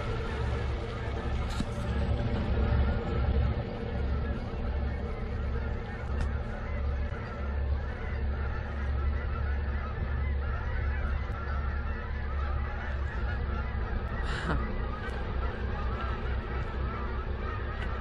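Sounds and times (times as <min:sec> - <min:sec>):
flock of birds honking: 0:00.0 - 0:18.0
steady low rumble: 0:00.0 - 0:18.0.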